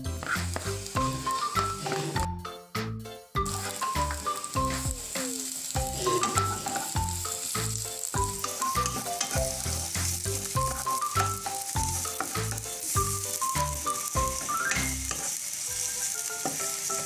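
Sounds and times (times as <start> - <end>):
background music with beat: 0.0 - 15.0
shallots sizzling in hot oil: 0.0 - 17.0.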